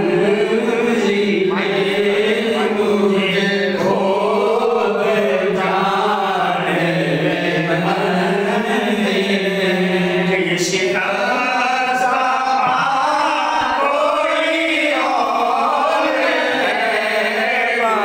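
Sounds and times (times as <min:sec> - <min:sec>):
man singing devotional poetry: 0:00.0 - 0:15.8.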